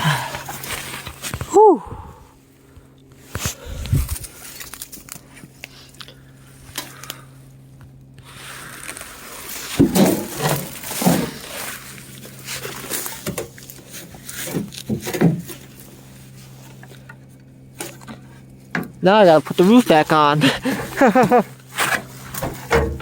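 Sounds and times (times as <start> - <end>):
brush crackling and rustling: 3.1 - 7.0, 8.0 - 22.8.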